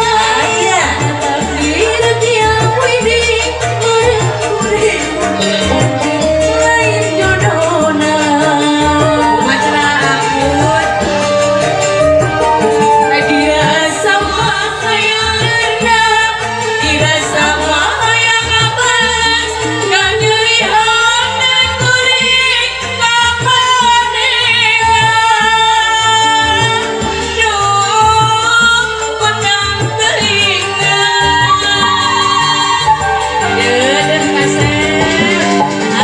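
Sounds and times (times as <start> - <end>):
instrumental accompaniment: 0.0 - 36.0
woman singing into a microphone: 0.0 - 36.0.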